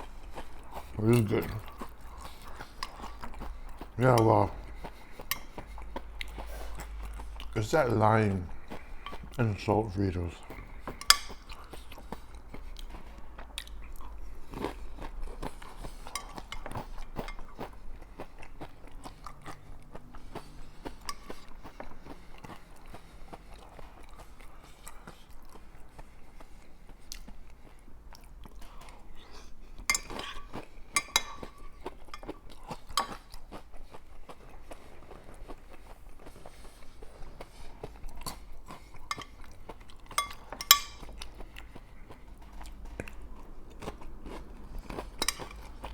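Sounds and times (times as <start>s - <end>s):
chewing crunchy chips: 0.0s - 45.9s.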